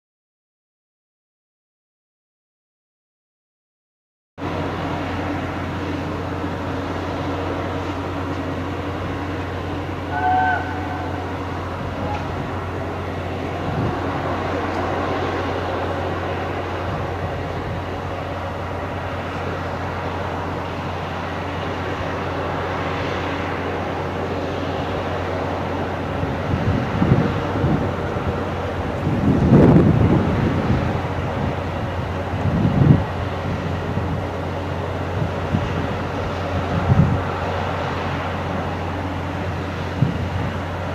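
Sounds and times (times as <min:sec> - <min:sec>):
distant steam locomotive exhaust rumble: 0:04.4 - 0:40.9
steady low hum: 0:04.4 - 0:40.9.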